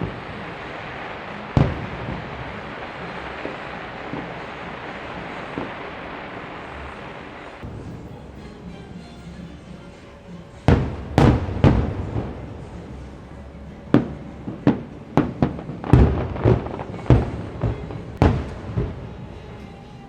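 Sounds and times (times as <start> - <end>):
distant fireworks booming: 0.0 - 9.0, 10.7 - 20.0.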